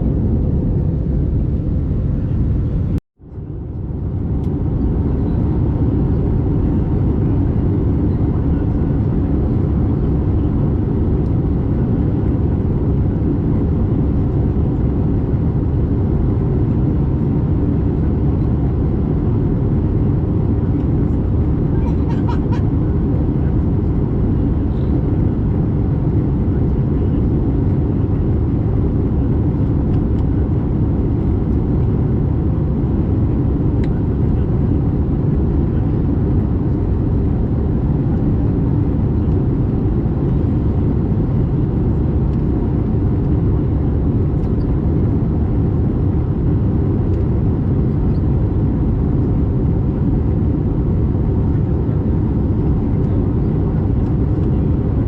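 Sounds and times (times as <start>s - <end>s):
aircraft engine and airflow rush: 0.0s - 55.0s.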